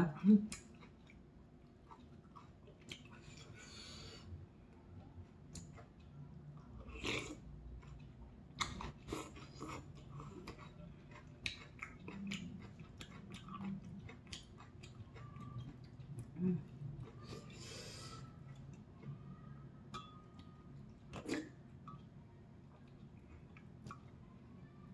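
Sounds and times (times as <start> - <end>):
person chewing: 0.5 - 4.3, 5.4 - 19.1, 19.9 - 24.1.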